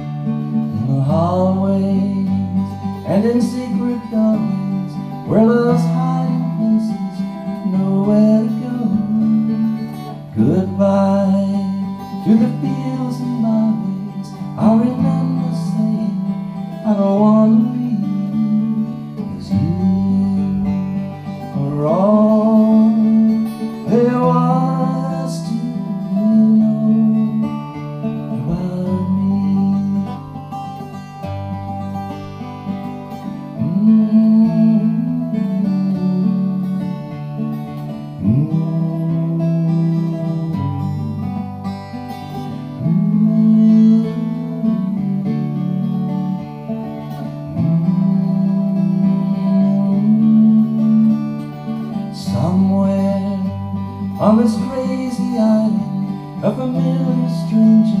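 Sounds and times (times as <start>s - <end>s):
twelve-string acoustic guitar strummed: 0.0s - 58.0s.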